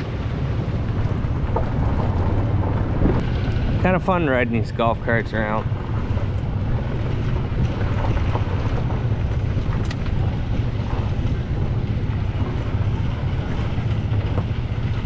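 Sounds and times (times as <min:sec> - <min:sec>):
golf cart engine drone: 0:00.0 - 0:15.0
wind buffeting microphone: 0:00.0 - 0:15.0.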